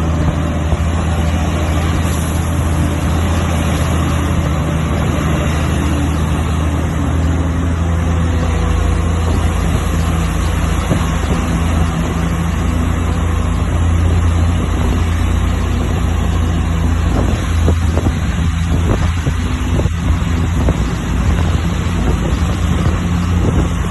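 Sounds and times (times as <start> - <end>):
diesel truck engine droning: 0.0 - 23.9.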